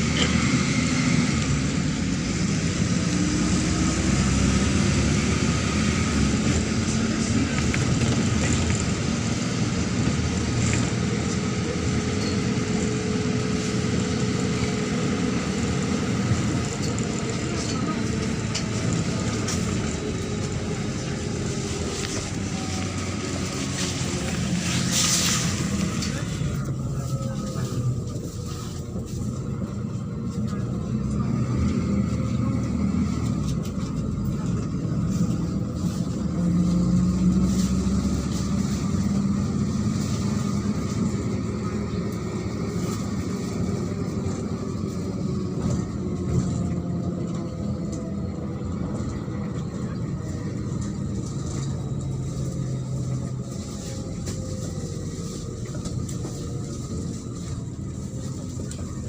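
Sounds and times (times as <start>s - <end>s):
bus engine running: 0.0s - 59.0s
road rumble: 0.0s - 59.0s.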